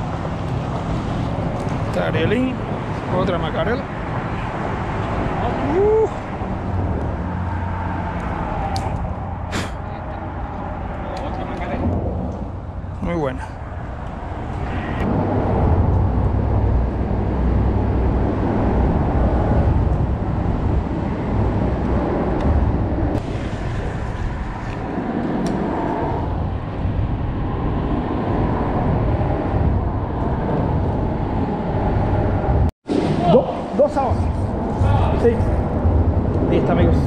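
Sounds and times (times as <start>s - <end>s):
low rumble of road traffic: 0.0s - 37.0s.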